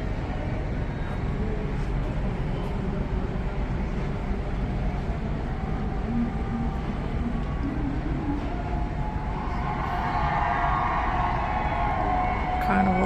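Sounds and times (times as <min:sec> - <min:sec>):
distant voices: 0:00.0 - 0:13.0
low rumble and hiss: 0:00.0 - 0:13.0.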